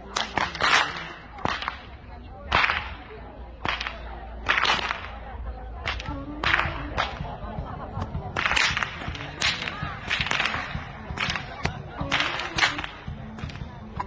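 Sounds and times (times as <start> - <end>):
whip cracking: 0.0 - 5.2, 5.8 - 7.3, 8.0 - 13.8.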